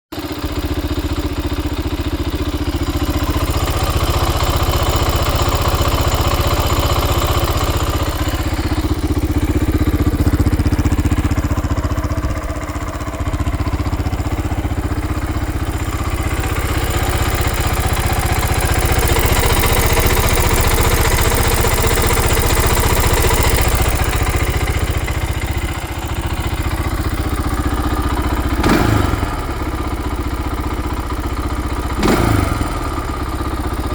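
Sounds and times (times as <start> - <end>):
atv engine idling: 0.1 - 33.9.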